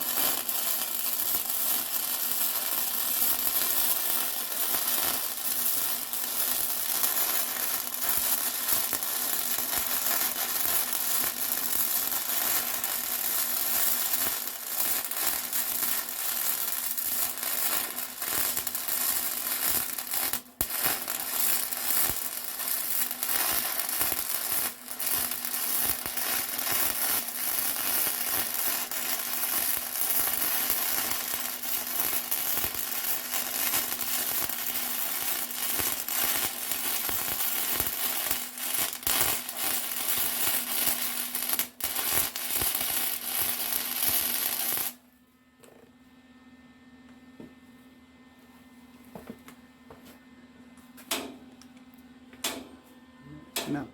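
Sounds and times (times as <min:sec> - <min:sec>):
arc welder crackling and sizzling: 0:00.0 - 0:45.1, 0:51.0 - 0:52.7, 0:53.3 - 0:53.9.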